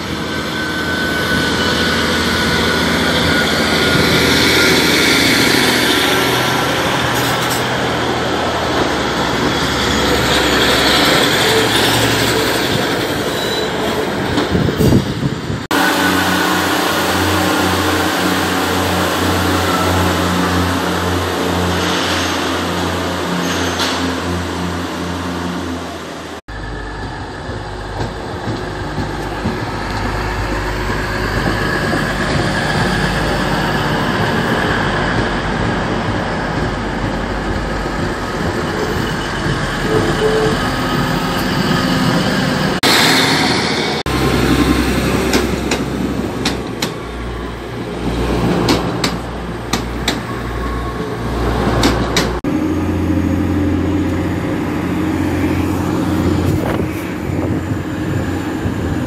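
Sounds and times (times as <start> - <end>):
diesel train engine drone: 0.0 - 59.0
wheel and rail noise: 0.0 - 59.0.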